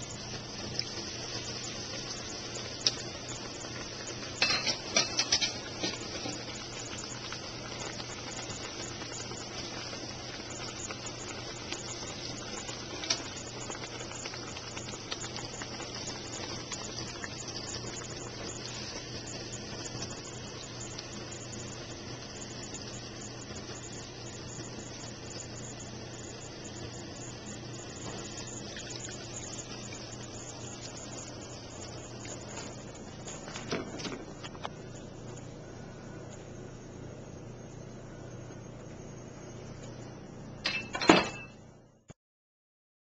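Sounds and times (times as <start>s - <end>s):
food sizzling in hot oil: 0.0s - 35.2s.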